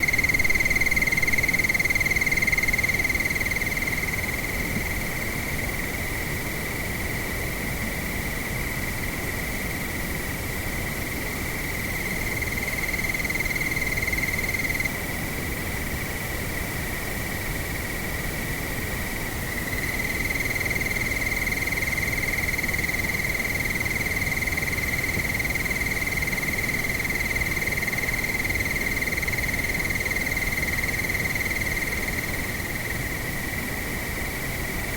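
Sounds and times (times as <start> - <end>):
crickets trilling: 0.0 - 34.9.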